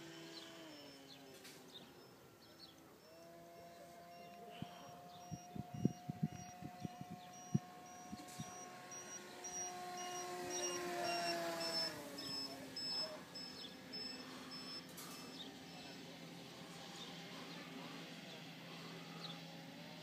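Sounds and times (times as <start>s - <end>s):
model plane motor whining: 0.0s - 20.0s.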